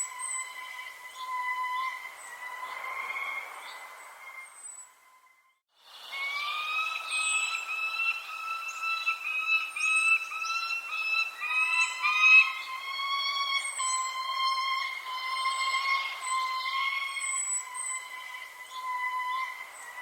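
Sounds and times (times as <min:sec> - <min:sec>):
birds chirping: 0:00.0 - 0:20.0
steady whistled tone: 0:00.0 - 0:20.0.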